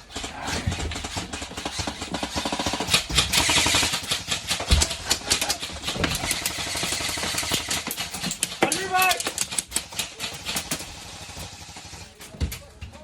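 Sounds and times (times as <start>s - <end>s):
airsoft gun full-auto burst: 0.1s - 12.1s.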